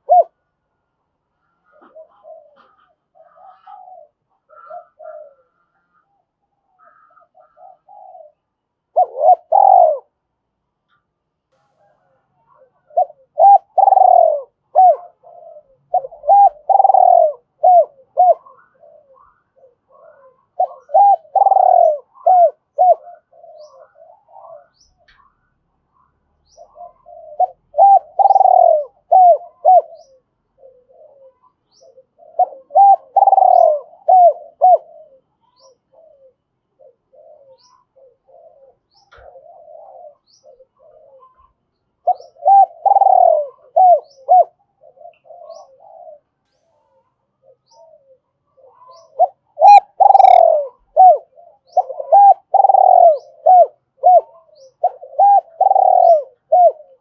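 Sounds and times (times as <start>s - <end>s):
dove cooing: 0.0s - 0.4s, 1.4s - 11.0s, 11.6s - 57.0s.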